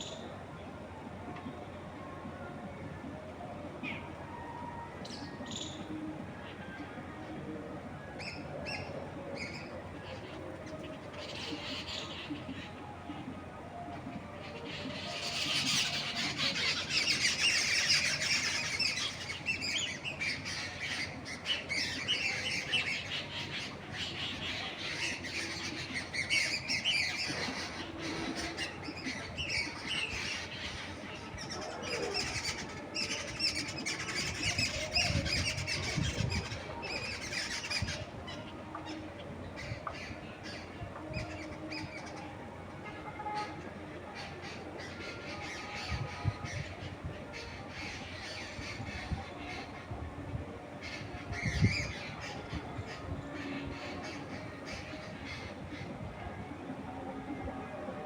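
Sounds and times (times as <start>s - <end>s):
songbirds chirping and squawking: 0.0s - 58.0s.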